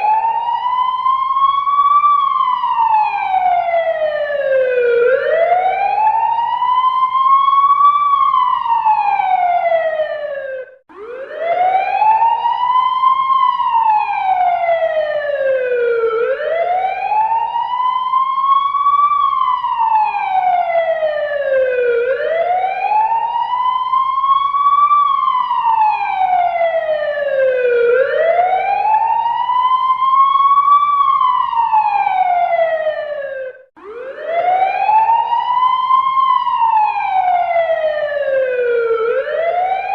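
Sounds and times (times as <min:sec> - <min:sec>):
fire engine siren wailing: 0:00.0 - 0:39.9.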